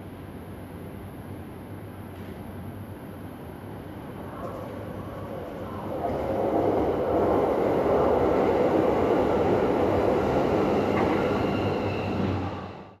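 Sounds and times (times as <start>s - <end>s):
train passing on rails: 1.7s - 13.0s.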